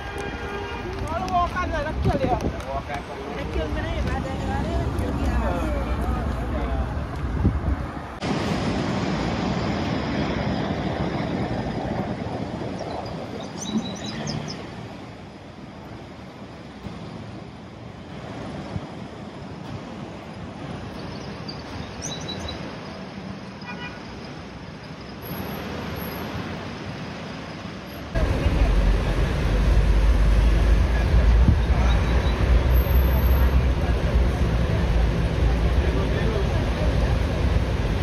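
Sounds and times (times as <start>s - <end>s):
road traffic passing cars: 0.0s - 38.0s.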